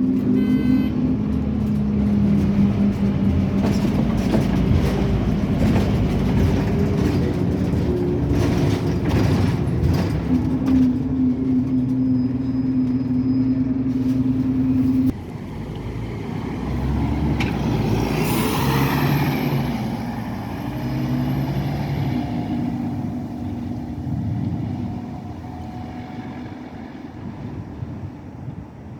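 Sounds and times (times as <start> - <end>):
bus diesel engine running: 0.0 - 28.9.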